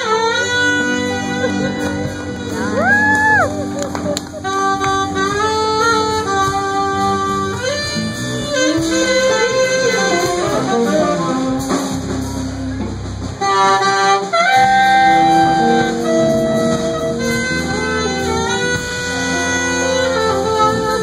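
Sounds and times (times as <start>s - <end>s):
jazz band playing: 0.0s - 21.0s
saxophone melody: 0.0s - 21.0s.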